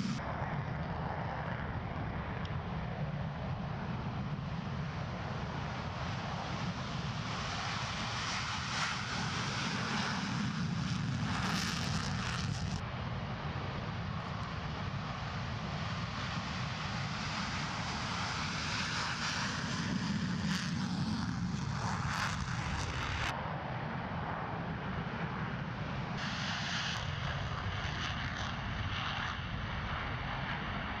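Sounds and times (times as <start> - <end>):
fighter jets taking off: 0.0 - 31.0.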